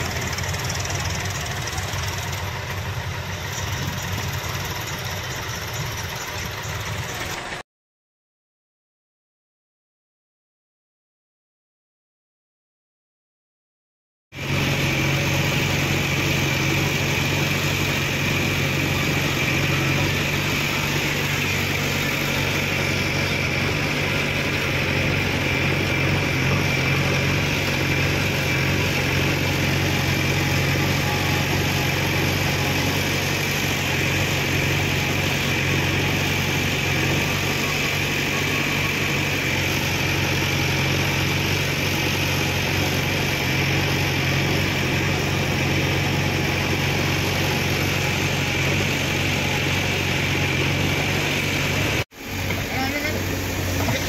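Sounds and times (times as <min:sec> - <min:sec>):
diesel engine idling: 0:00.0 - 0:07.6, 0:14.4 - 0:54.0.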